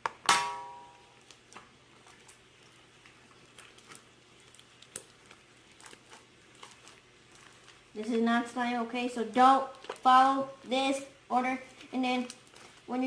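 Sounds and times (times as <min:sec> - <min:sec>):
sticky slime squishing: 0:01.1 - 0:13.0.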